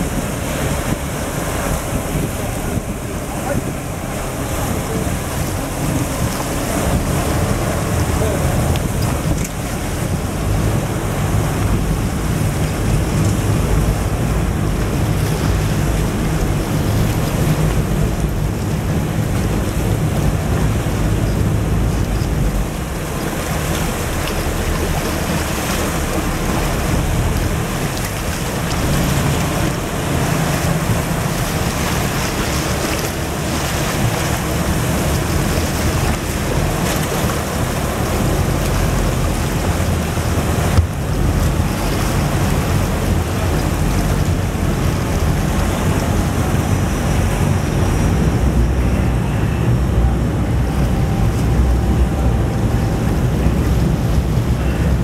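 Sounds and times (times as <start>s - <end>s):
sea water splashing over deck: 0.0s - 55.0s
wind rumble on microphone: 0.0s - 55.0s.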